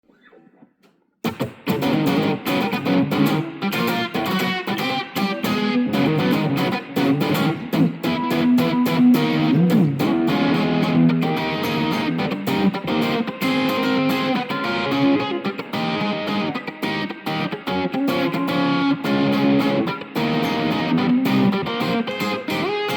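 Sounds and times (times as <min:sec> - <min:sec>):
distorted electric guitar riff: 0:00.1 - 0:22.9.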